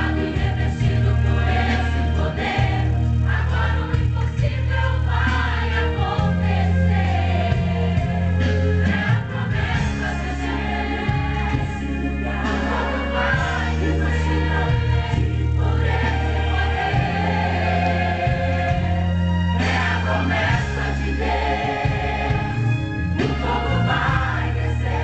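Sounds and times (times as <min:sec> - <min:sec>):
choir singing gospel: 0:00.0 - 0:25.0
keyboard bass notes: 0:00.0 - 0:25.0.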